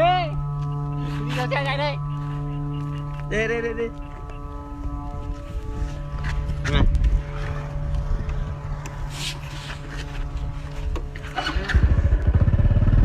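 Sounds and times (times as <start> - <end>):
kite flute drone: 0.0 - 13.0
vehicle engine approaching: 0.0 - 13.0.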